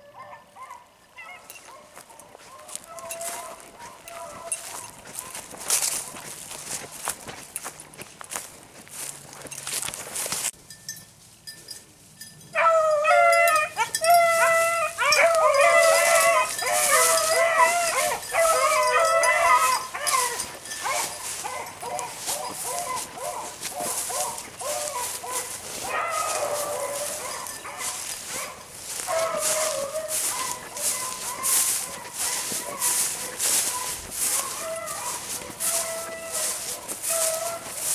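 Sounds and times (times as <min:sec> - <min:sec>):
dogs baying: 0:00.0 - 0:07.1, 0:12.5 - 0:37.9.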